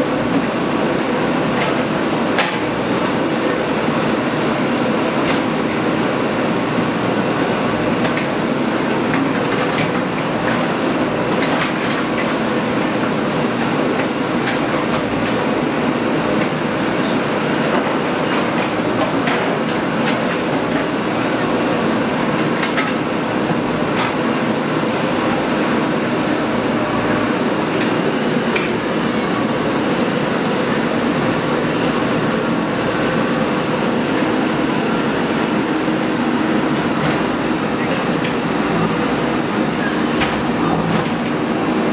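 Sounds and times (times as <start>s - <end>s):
diesel engine running under work: 0.0s - 41.9s.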